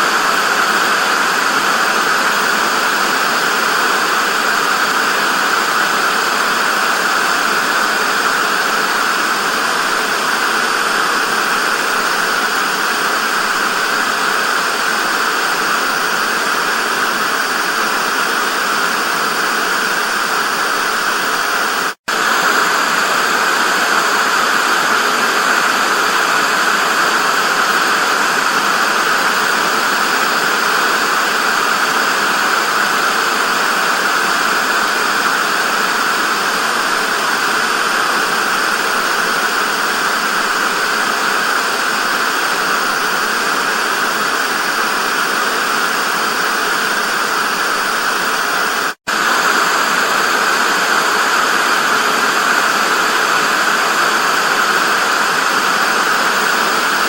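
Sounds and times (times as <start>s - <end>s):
tv static hiss: 0.0s - 57.0s.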